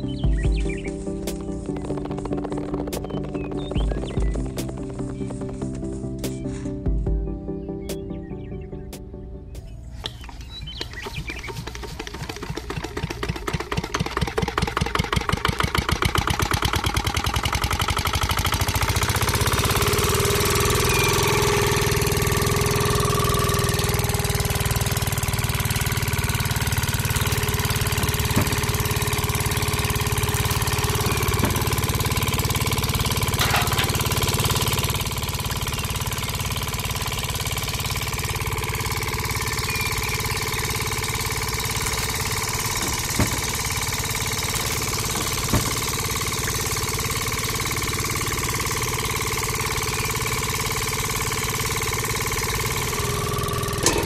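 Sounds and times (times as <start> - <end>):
diesel engine starting: 0.0 - 8.8, 10.2 - 54.0.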